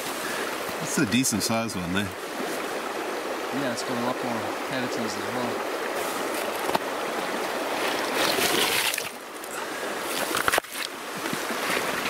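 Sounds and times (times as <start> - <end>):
river water running over stones: 0.0 - 12.0.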